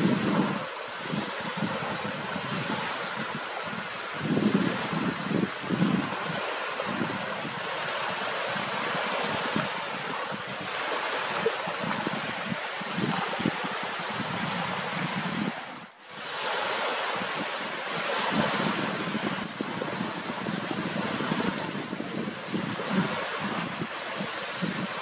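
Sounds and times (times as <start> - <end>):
water lapping at shore: 0.0 - 25.0
wind buffeting microphone: 0.0 - 25.0.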